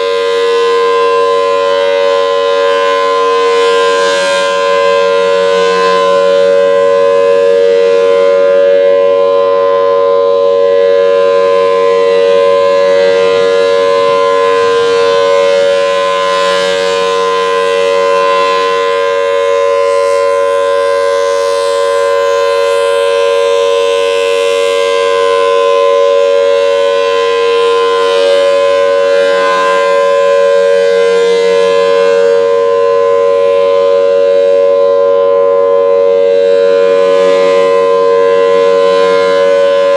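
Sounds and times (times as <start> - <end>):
warning siren held tone: 0.0 - 39.9.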